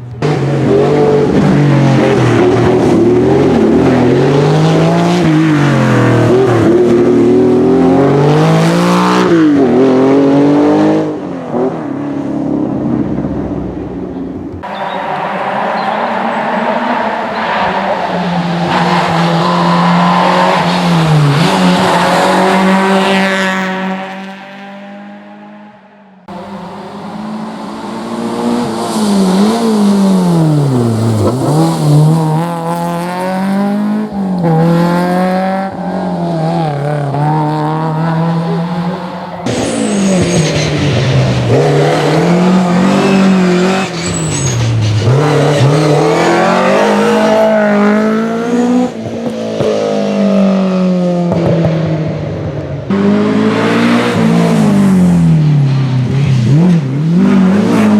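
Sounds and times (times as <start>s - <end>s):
rally car engines revving high: 0.0s - 57.9s.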